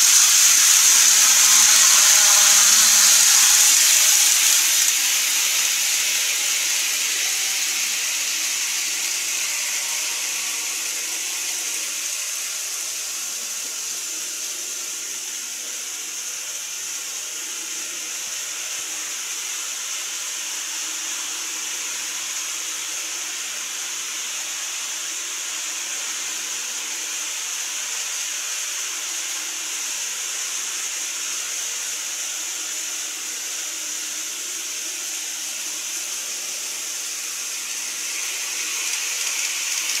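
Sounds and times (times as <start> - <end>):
model train running on track: 0.0 - 40.0.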